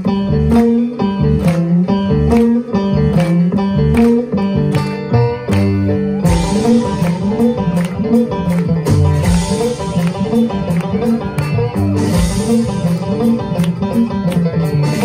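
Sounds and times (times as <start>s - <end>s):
acoustic band playing: 0.0s - 15.0s.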